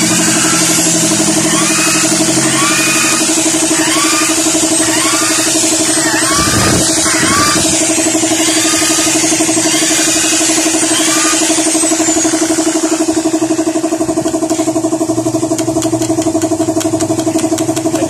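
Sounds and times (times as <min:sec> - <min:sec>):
motor humming: 0:00.0 - 0:18.0
sweeping electronic music: 0:00.0 - 0:18.0.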